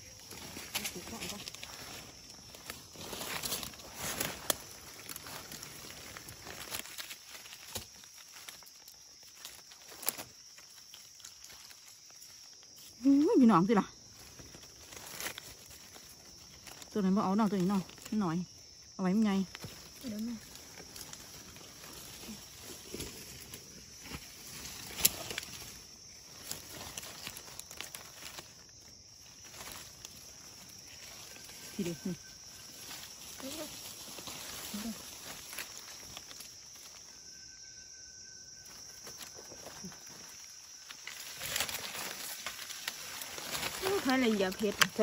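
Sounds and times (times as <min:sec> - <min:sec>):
high insect tone: 0:00.0 - 0:45.0
leaves and twigs rustling: 0:00.0 - 0:45.0
twigs snapping: 0:00.2 - 0:12.7, 0:14.2 - 0:16.9, 0:19.5 - 0:31.7, 0:32.4 - 0:37.0, 0:38.7 - 0:45.0.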